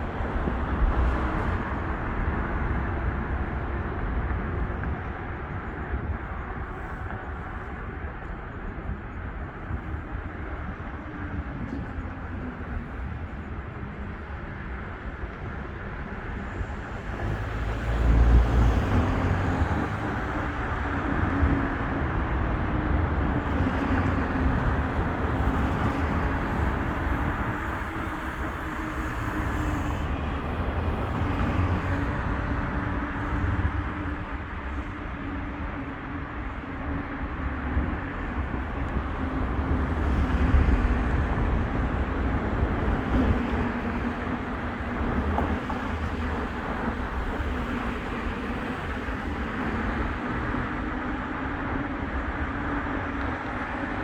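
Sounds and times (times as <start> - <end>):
low traffic drone: 0.0 - 54.0.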